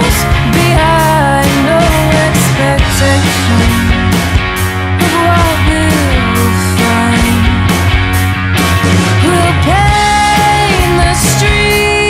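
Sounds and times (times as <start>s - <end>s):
rock music with steady beat: 0.0s - 12.0s.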